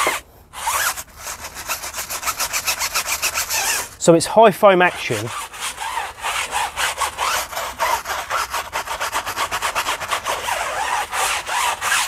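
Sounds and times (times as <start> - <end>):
brush scrubbing rubber tire: 0.0 - 4.1, 4.8 - 12.0.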